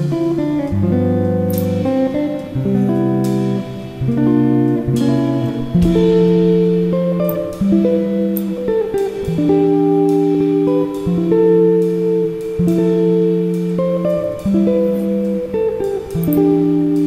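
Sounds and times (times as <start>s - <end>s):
slow instrumental melody: 0.0s - 17.0s.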